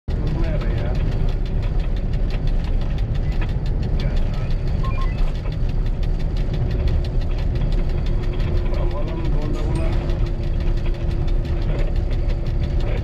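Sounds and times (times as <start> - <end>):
diesel locomotive engine rumbling: 0.1 - 13.0.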